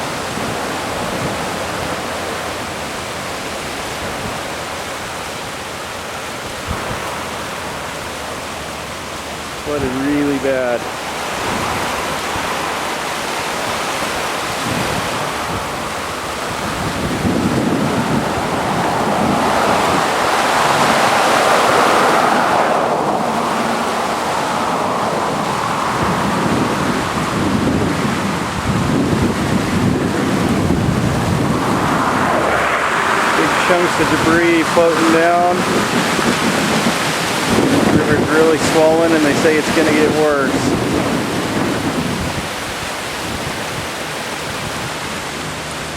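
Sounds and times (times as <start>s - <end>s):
river water roaring: 0.0s - 45.9s
wind gusting on microphone: 0.0s - 45.9s.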